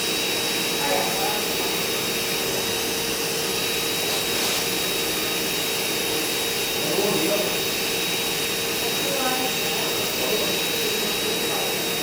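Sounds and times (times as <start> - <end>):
small electric motor whirring: 0.0 - 12.0.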